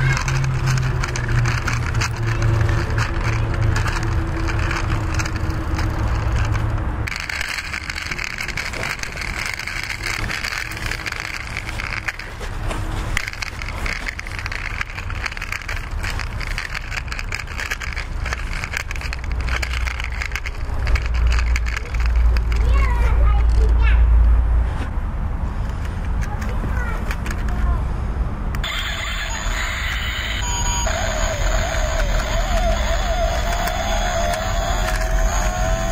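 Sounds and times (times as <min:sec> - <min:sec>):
toy car wheels rolling on concrete: 0:00.0 - 0:23.9, 0:25.5 - 0:27.9, 0:28.5 - 0:35.9.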